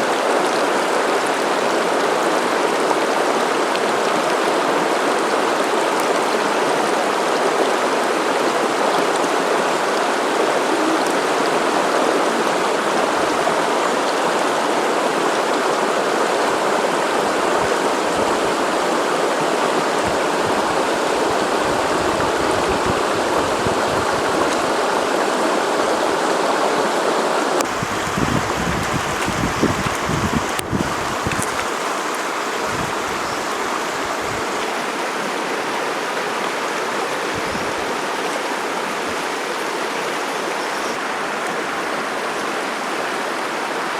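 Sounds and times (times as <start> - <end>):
river water rushing over rocks: 0.0 - 43.9.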